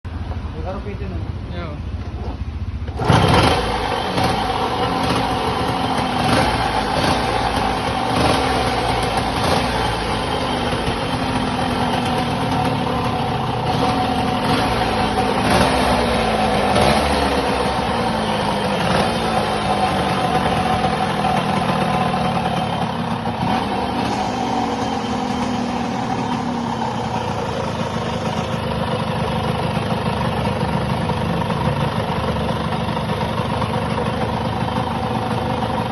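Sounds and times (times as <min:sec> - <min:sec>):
motorcycle engine revving and idling: 0:00.1 - 0:35.9.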